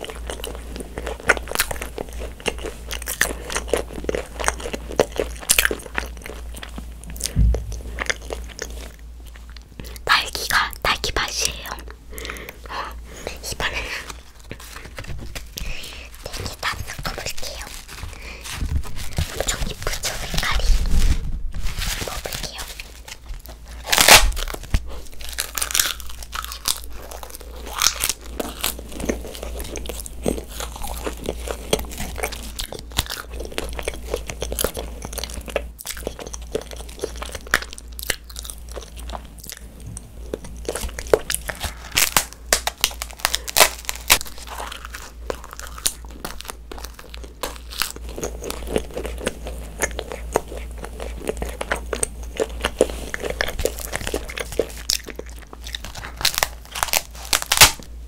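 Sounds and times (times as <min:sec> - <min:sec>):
paper being bitten and chewed: 0:00.0 - 0:58.0.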